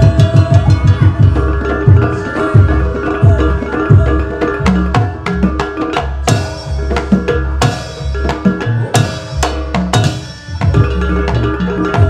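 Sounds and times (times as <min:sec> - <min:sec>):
hand drums playing fast strokes: 0:00.0 - 0:12.0
violin: 0:00.0 - 0:12.0.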